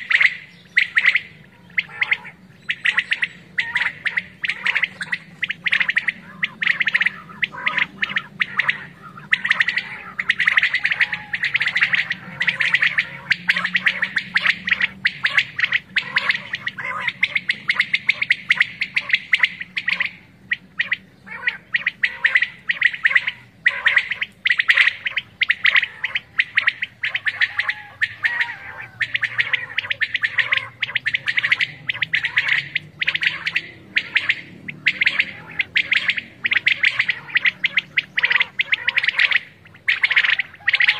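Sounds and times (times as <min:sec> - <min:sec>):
quails calling: 0:00.0 - 0:40.9.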